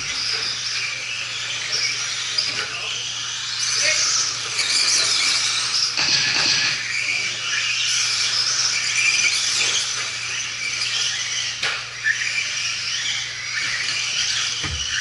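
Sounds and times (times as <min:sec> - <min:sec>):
electric motor whines: 0:00.0 - 0:15.0
steady low hum: 0:00.0 - 0:15.0.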